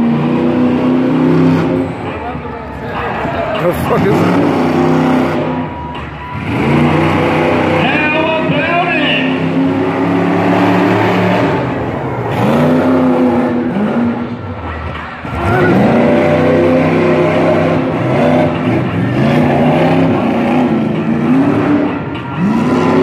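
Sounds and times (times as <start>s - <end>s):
truck engine revving hard: 0.0s - 2.4s, 3.0s - 23.0s.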